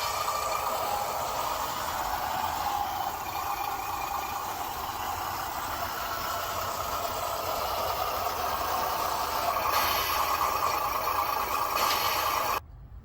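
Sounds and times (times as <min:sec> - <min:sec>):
toy truck motor whining: 0:00.0 - 0:12.6
toy truck rattling: 0:00.0 - 0:12.6.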